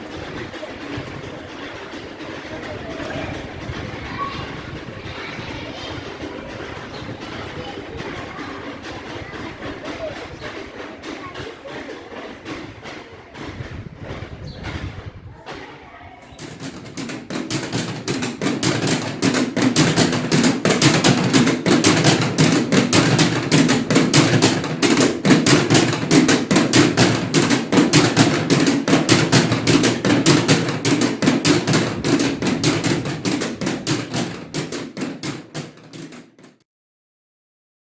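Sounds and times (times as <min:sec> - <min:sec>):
wooden rattle clattering: 0:00.0 - 0:36.6.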